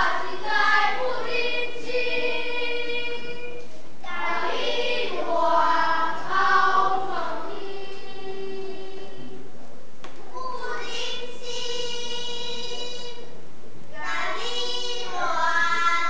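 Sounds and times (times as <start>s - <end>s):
children's choir singing: 0.0s - 9.5s, 10.3s - 13.3s, 13.9s - 16.0s.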